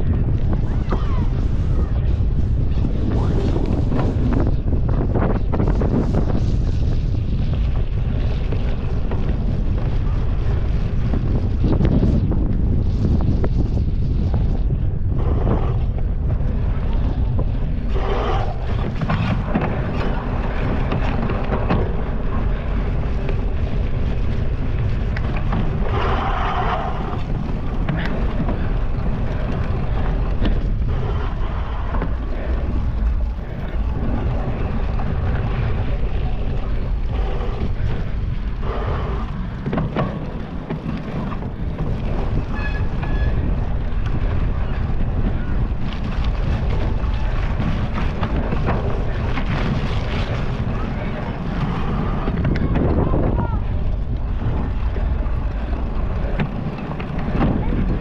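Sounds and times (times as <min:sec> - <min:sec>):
bike rattling on rough ground: 0:00.0 - 0:58.0
wind buffeting microphone: 0:00.0 - 0:58.0.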